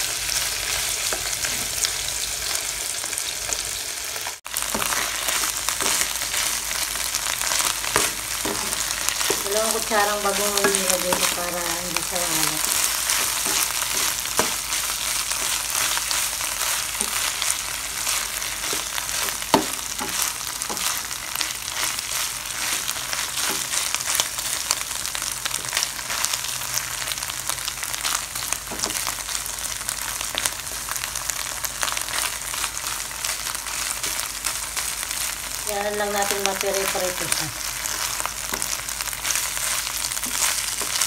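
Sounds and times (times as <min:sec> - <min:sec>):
meat sizzling in oil: 0:00.0 - 0:41.0.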